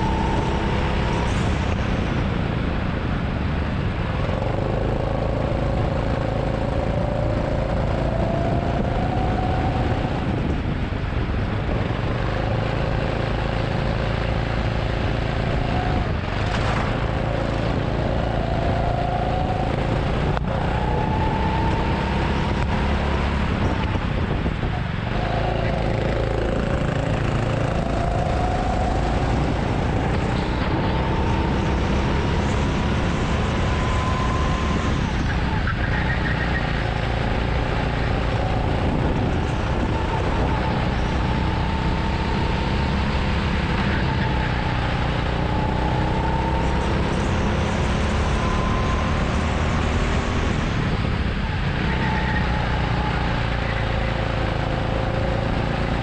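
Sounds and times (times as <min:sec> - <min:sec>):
go-kart engine running: 0:00.0 - 0:56.0
wind rush on microphone: 0:00.0 - 0:56.0.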